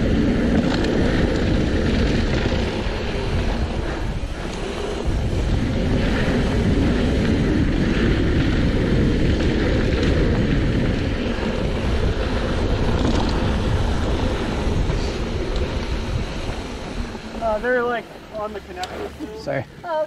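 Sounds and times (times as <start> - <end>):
wind on microphone: 0.0 - 19.9
bike tyres rumbling on dirt trail: 0.0 - 20.0.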